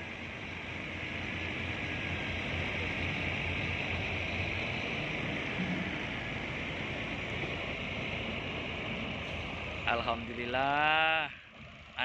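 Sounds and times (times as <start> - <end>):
diesel truck engine throbbing: 0.0 - 12.0.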